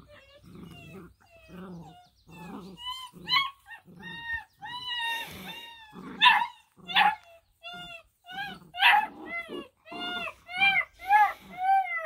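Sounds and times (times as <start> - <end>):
puppies whining and yipping: 0.0 - 12.0.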